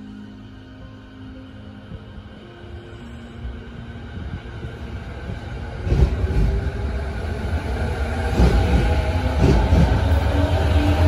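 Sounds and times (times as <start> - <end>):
electric train rumbling past: 0.0 - 11.0.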